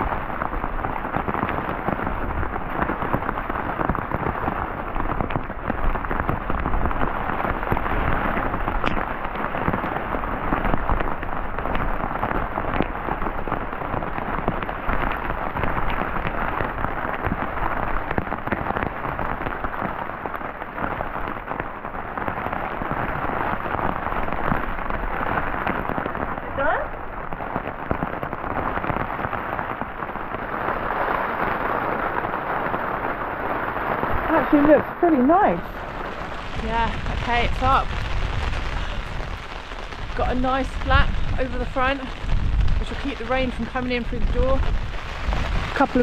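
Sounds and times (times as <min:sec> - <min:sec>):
rain pattering on a tarp: 0:00.0 - 0:46.0.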